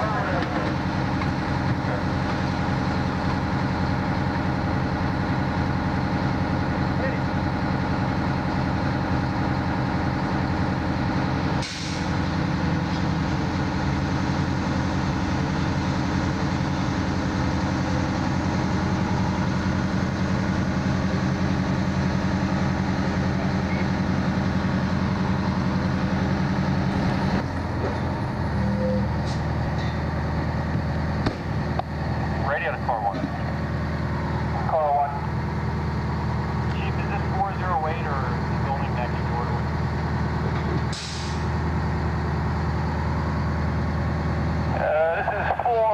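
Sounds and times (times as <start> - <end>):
fire engine diesel engine running: 0.0 - 45.9.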